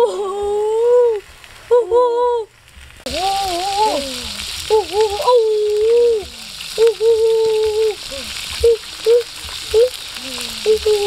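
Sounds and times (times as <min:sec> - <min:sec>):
meat sizzling on hot stone: 0:00.9 - 0:01.7, 0:02.5 - 0:11.0.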